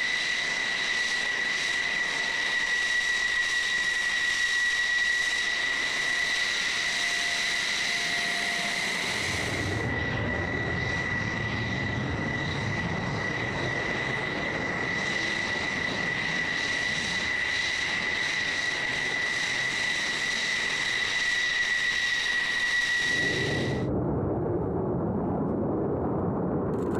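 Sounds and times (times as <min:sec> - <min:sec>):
jet engine whine and rumble: 0:00.0 - 0:26.9.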